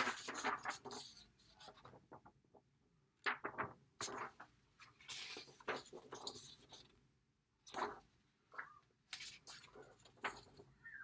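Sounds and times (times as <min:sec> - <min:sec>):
paper signs rustling and flapping: 0:00.0 - 0:10.8.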